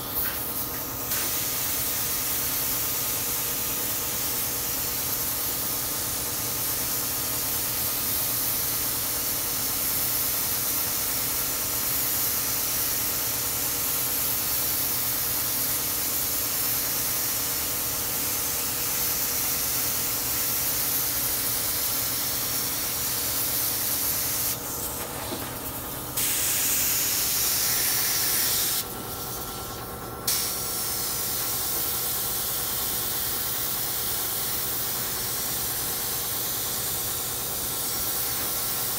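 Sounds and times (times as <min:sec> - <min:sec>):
spray gun hissing: 0:00.0 - 0:05.8, 0:06.4 - 0:25.0, 0:26.2 - 0:38.9.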